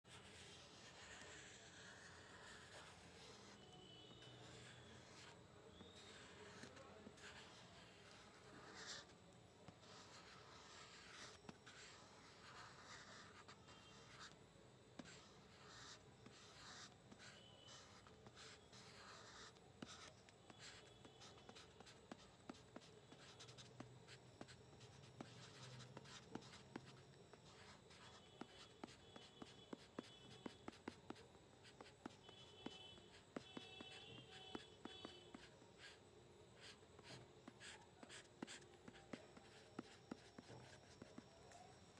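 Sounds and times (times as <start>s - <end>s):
pencil scratching on paper: 0.1s - 14.4s, 15.0s - 36.0s, 36.6s - 41.7s.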